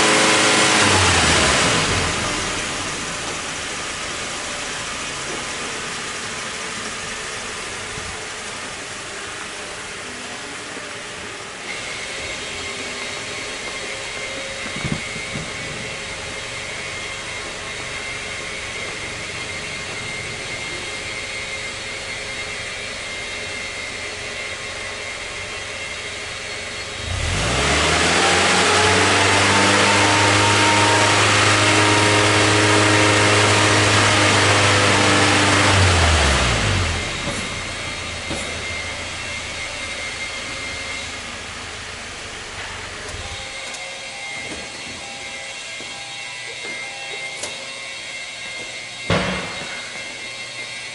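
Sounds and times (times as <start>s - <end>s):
car engine idling and revving: 0.0s - 45.9s.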